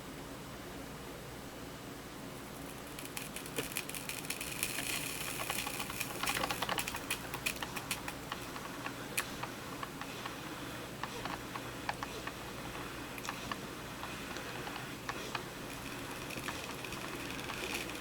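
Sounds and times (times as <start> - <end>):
coffee maker ticking and crackling: 2.5 - 18.0.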